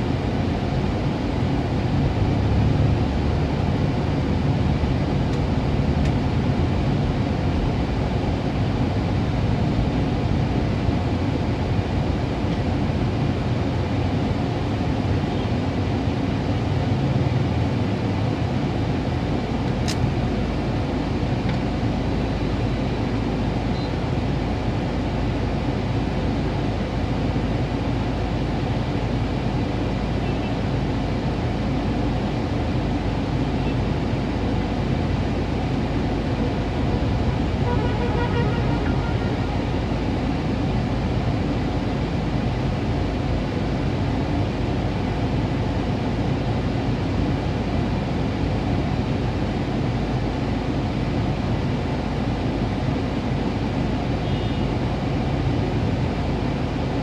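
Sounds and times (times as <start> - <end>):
car idling hum: 0.0 - 57.0.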